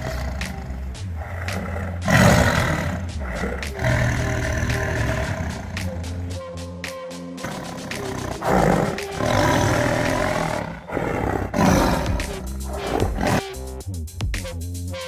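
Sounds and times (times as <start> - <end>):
tigers roaring: 0.0 - 6.3, 7.4 - 13.6
background music with bass line: 0.0 - 15.0.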